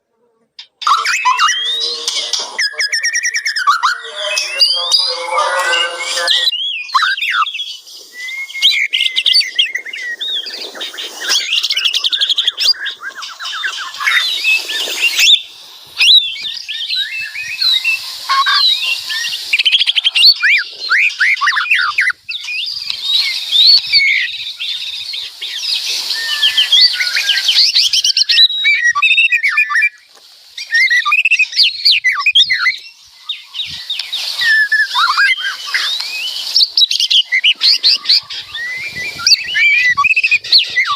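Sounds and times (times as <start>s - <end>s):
bird singing whistled phrases and trills: 0.8s - 40.9s.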